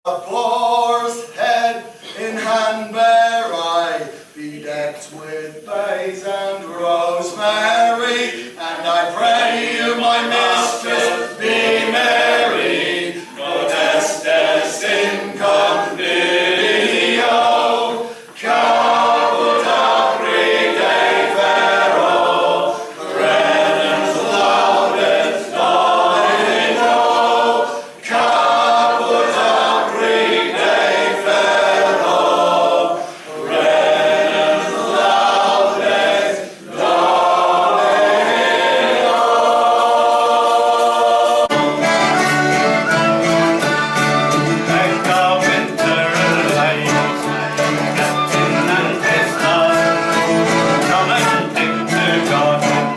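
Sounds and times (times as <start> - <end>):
group singing folk song: 0.1 - 52.9.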